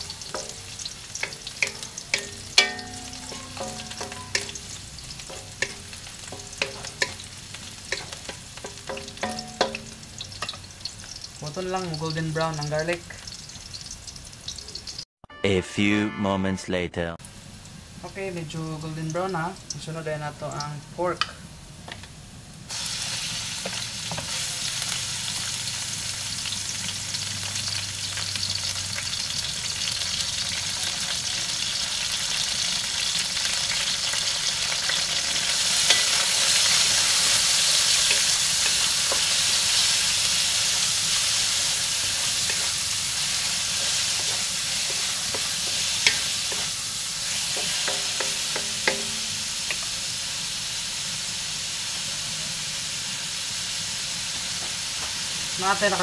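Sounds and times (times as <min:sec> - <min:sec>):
meat sizzling in hot oil: 0:00.0 - 0:15.0, 0:17.2 - 0:21.4, 0:22.5 - 0:56.0.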